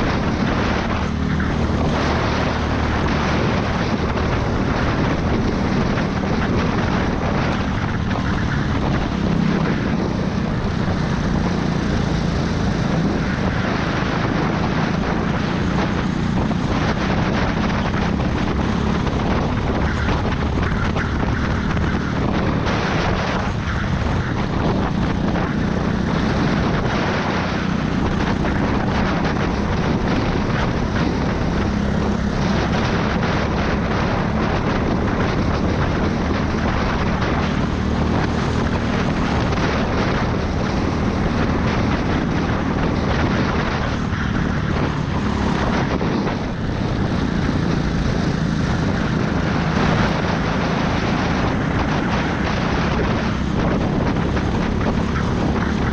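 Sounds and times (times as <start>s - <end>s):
go-kart engine drone: 0.0s - 55.9s
rush of noise: 0.0s - 55.9s.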